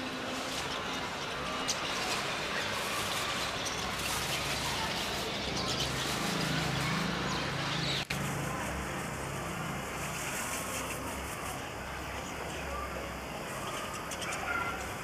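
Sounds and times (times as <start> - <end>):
starlings chattering: 0.0 - 15.0.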